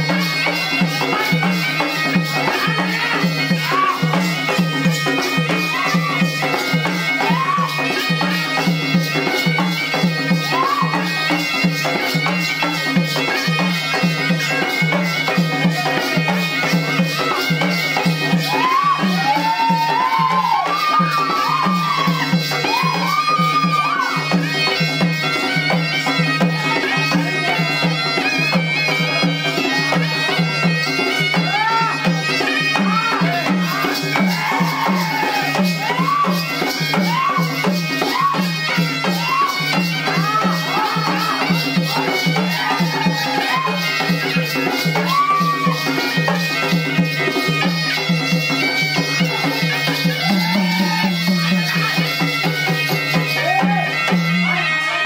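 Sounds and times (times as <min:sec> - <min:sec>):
drums beating: 0:00.0 - 0:55.0
reedy wind instrument melody: 0:00.0 - 0:55.0.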